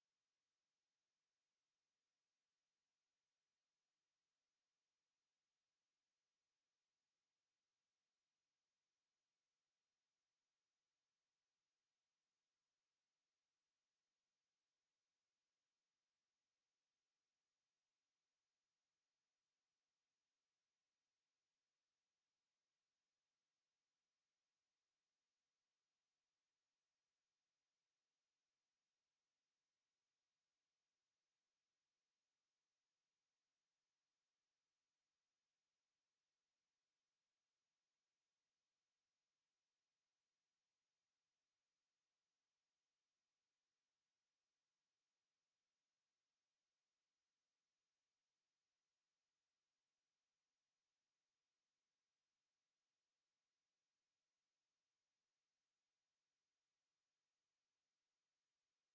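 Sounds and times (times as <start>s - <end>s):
high-pitched sine test tone: 0.0s - 3.0s, 3.6s - 58.9s.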